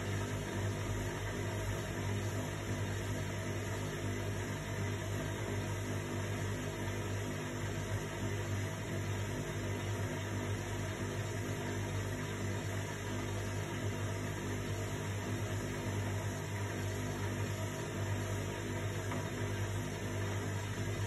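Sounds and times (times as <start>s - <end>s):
washing machine running: 0.0s - 21.0s.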